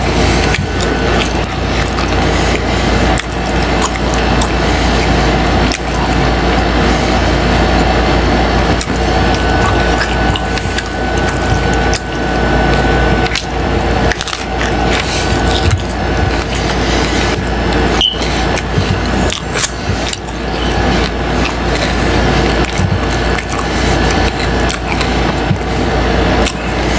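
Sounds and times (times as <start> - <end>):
chewing crunchy food: 0.0 - 26.9
steady low hum: 0.0 - 26.9.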